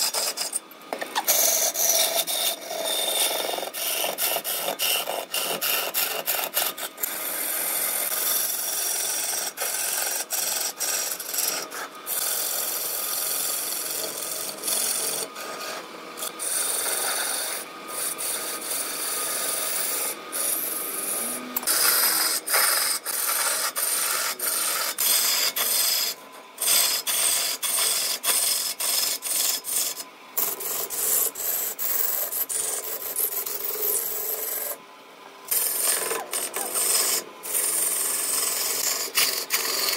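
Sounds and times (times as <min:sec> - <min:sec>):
lathe tool shaving wood: 0:00.0 - 0:34.8, 0:35.5 - 0:39.9.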